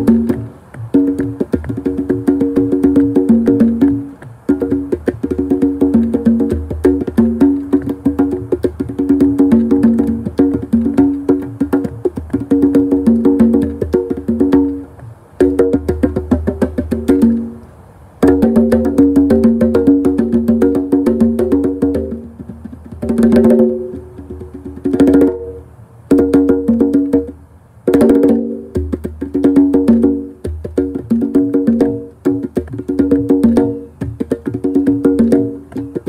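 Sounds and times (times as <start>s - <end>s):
conga drums played by hand: 0.0s - 17.6s, 18.2s - 36.0s.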